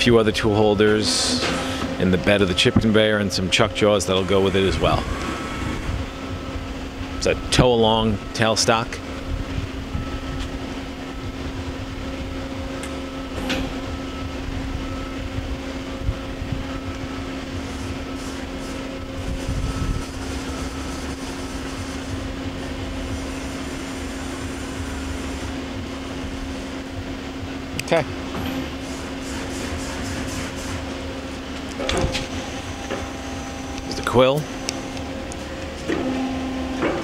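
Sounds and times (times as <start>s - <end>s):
lathe humming: 0.0s - 37.0s.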